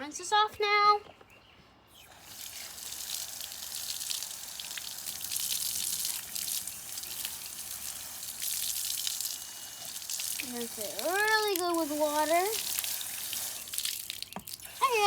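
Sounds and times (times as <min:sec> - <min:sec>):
tap water splashing: 0:02.2 - 0:15.0.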